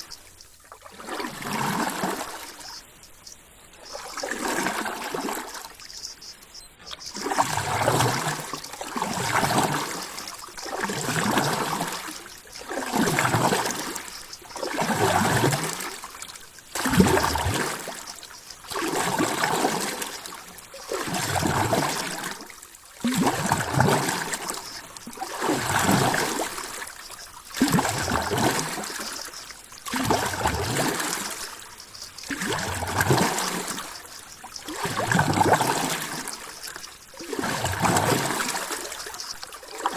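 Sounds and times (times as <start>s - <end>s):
water surging and gurgling: 0.0s - 6.4s, 7.0s - 39.9s.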